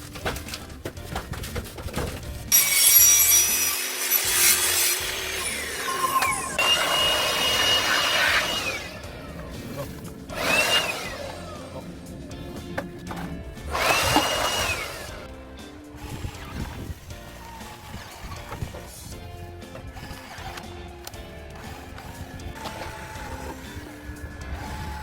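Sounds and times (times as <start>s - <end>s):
power tool motor whine: 2.5s - 11.9s, 13.2s - 25.0s.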